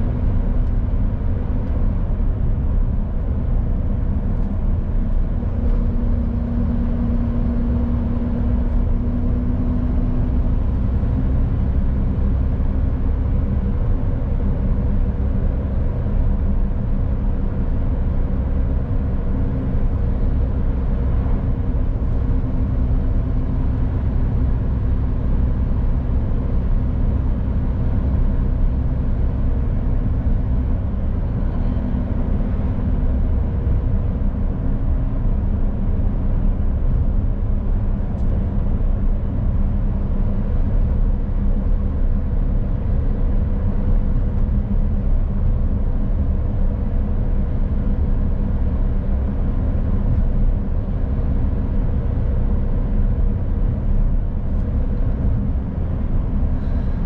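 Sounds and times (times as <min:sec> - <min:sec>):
road and tyre noise: 0:00.0 - 0:57.0
truck engine drone: 0:00.0 - 0:57.0.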